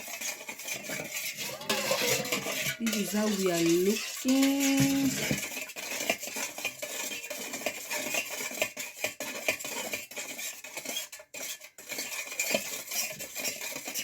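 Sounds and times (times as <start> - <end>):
spoon stirring in a bowl: 0.0 - 14.0.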